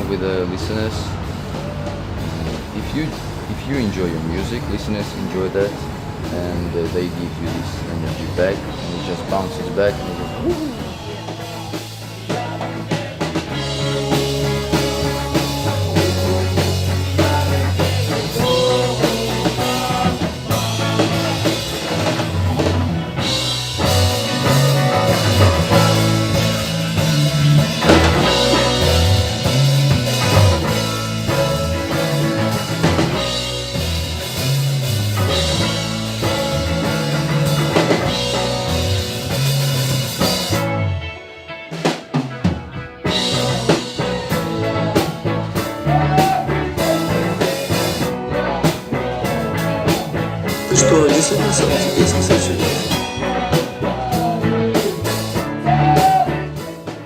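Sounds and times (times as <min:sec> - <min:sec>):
bass line: 0:00.0 - 0:41.2, 0:42.1 - 0:56.7
rock band playing: 0:00.0 - 0:57.0
drum kit: 0:01.0 - 0:57.0.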